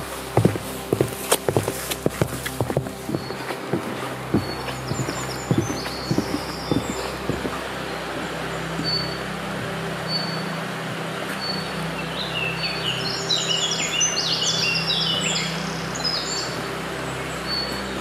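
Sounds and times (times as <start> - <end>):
songbird singing: 0.0 - 10.7, 11.3 - 18.0.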